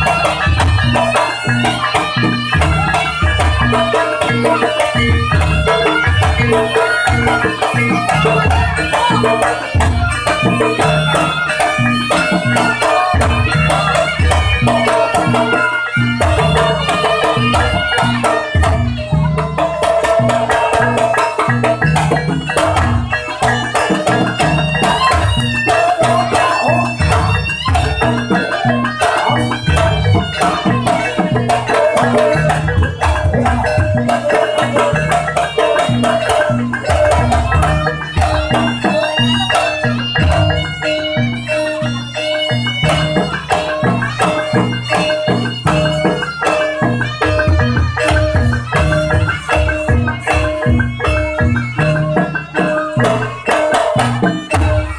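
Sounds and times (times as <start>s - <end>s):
gamelan ensemble: 0.0s - 54.9s
hand drums beating quick rhythm: 0.0s - 54.9s
wavering high melody: 0.0s - 54.9s.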